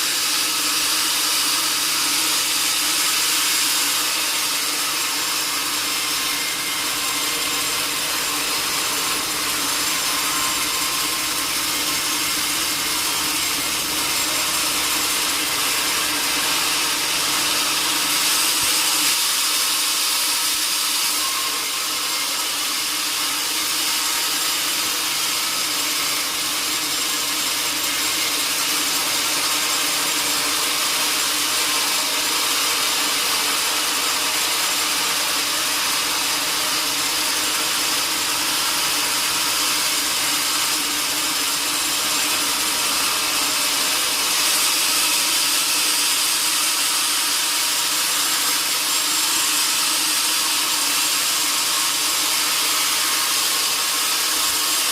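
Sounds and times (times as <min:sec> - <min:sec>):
saw cutting through log: 0:00.0 - 0:54.9.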